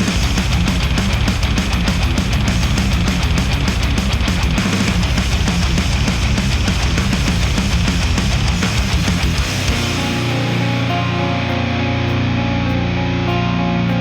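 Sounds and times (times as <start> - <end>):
heavy rock instrumental: 0.0 - 14.0.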